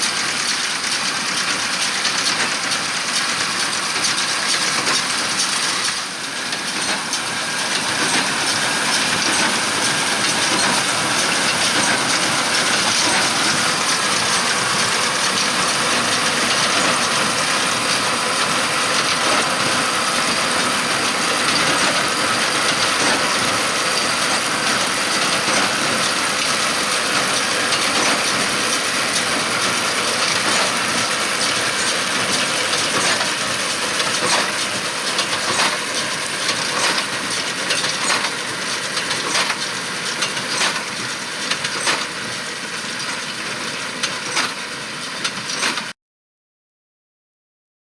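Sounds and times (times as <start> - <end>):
tractor engine under load: 0.0 - 45.9.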